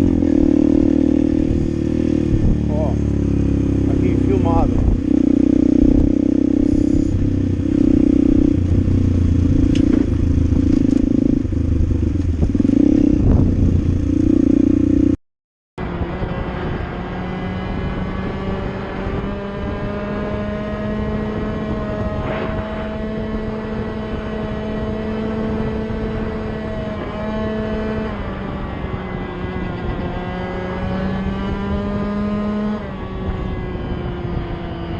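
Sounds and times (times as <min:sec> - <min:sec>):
motorcycle engine accelerating: 0:00.0 - 0:15.2, 0:15.8 - 0:34.9.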